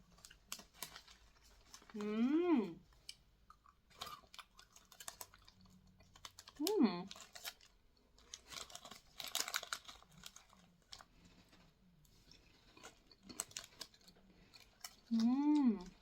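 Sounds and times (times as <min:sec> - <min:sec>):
chewing and crunching snacks: 0:00.0 - 0:16.0.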